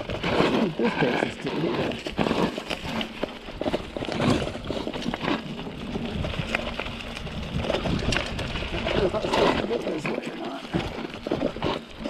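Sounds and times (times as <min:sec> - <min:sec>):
bike rattling: 0:00.0 - 0:12.0
tyres rolling on dirt: 0:00.0 - 0:12.0.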